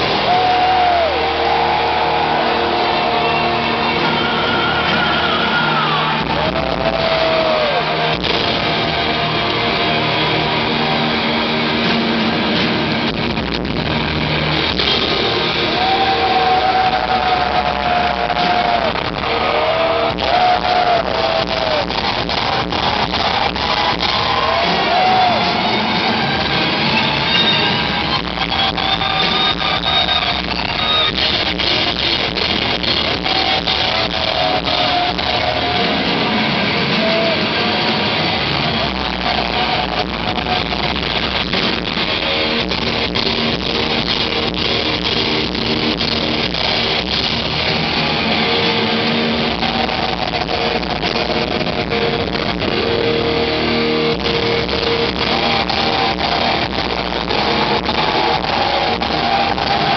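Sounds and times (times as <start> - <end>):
electric guitar: 0.0 - 59.9
hard rock band playing live: 0.0 - 59.9
steady drum beat: 0.0 - 59.9.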